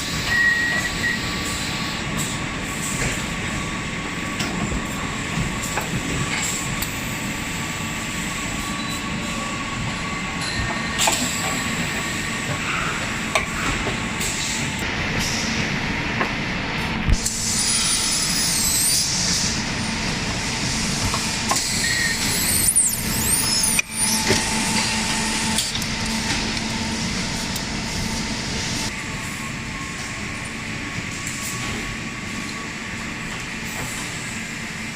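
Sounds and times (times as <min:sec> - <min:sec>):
machine humming and hissing: 0:00.0 - 0:34.9.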